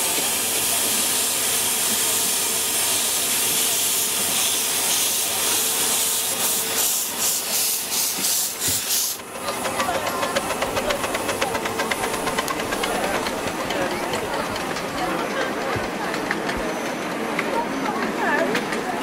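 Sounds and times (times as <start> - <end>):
steam locomotive exhaust chuffs: 0.0 - 17.1
steam locomotive hissing: 0.0 - 19.0.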